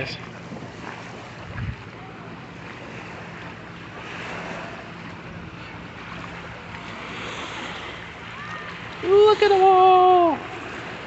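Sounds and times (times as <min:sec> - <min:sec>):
open water rushing: 0:00.0 - 0:11.0
wind: 0:00.0 - 0:11.0.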